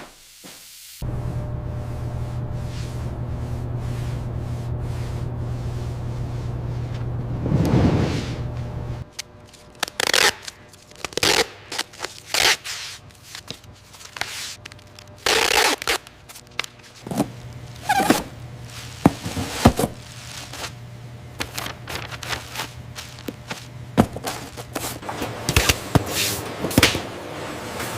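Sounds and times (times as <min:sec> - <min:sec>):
low machine hum: 0:01.0 - 0:27.9.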